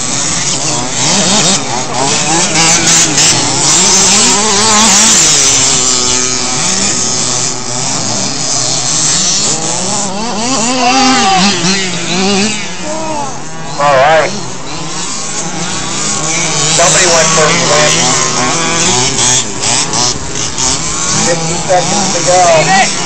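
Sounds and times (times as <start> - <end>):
radio-controlled car motors revving: 0.0 - 23.0.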